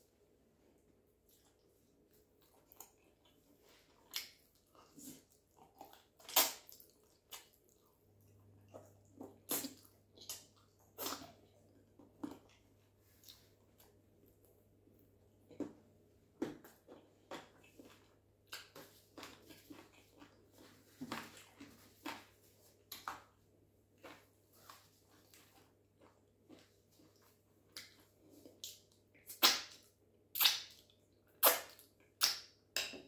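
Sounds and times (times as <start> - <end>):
chewing with wet mouth clicks: 1.3 - 14.6, 16.6 - 23.4, 25.2 - 33.0.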